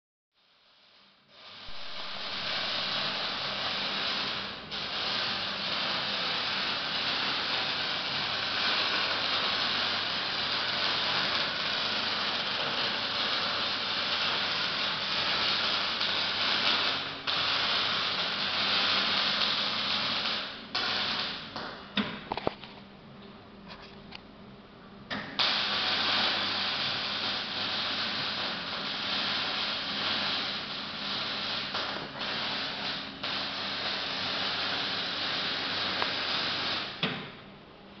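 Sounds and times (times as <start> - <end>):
welding arc crackling and hissing: 0.4 - 22.7, 25.1 - 37.4.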